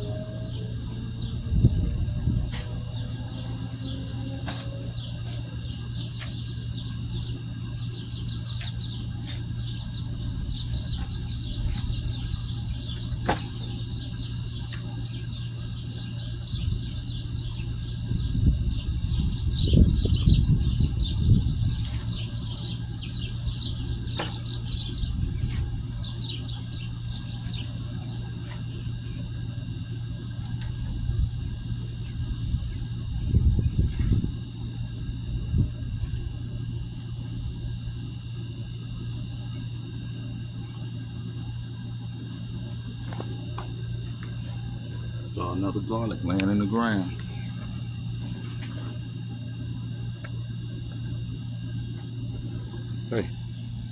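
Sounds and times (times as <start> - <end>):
low rumbling noise: 0.0 - 53.9
small birds chirping: 0.0 - 53.9
steady low hum: 0.0 - 53.9.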